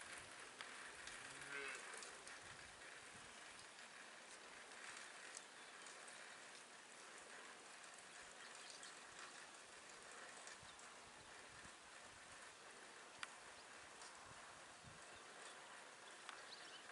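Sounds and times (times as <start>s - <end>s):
small clicks: 0.0s - 12.5s, 13.1s - 14.4s, 15.0s - 16.9s
faint outdoor hiss: 0.0s - 16.9s.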